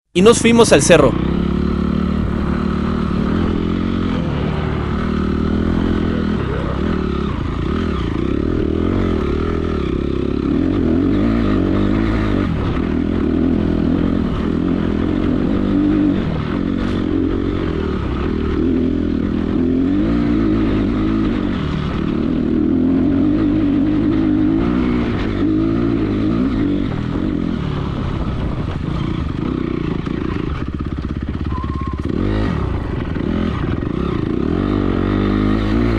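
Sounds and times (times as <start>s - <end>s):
motorcycle engine revving: 0.2s - 35.9s.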